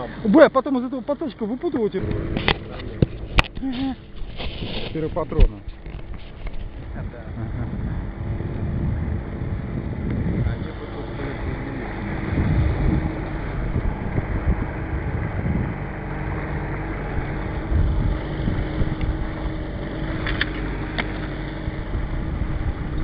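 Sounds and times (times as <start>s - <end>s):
outboard motor humming: 0.0s - 23.0s.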